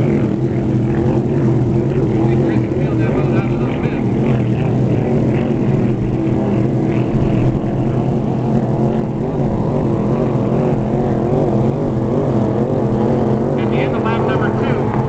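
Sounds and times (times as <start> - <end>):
racing boat engines droning: 0.0 - 15.0.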